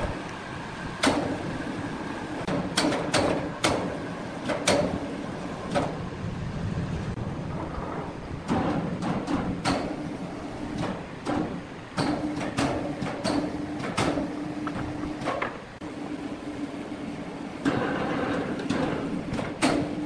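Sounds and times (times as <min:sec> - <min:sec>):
electric hoist humming: 0:00.0 - 0:20.0.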